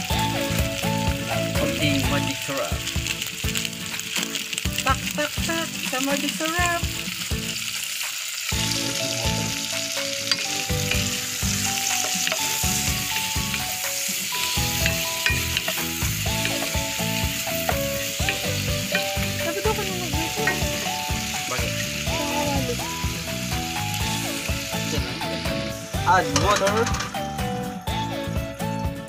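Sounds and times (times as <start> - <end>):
shrimp sizzling in a pot: 0.0 - 28.4.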